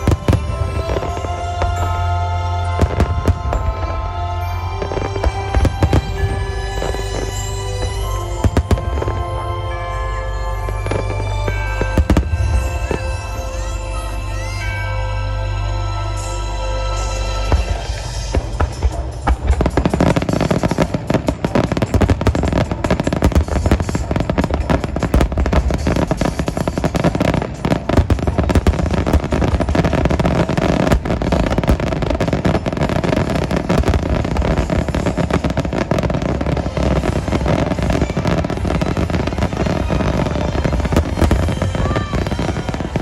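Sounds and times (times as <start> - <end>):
fireworks booming and crackling: 0.0 - 14.9, 16.8 - 43.0
heavy low rumble: 0.0 - 43.0.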